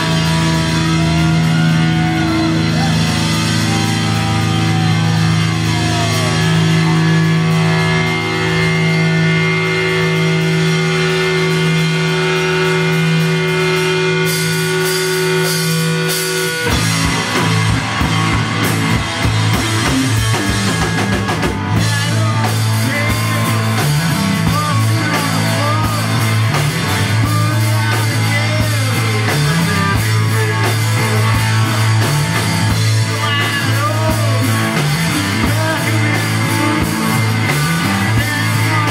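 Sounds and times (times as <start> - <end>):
droning guitar tones: 0.0 - 38.9
drums: 0.0 - 38.9
rock band playing: 0.0 - 38.9.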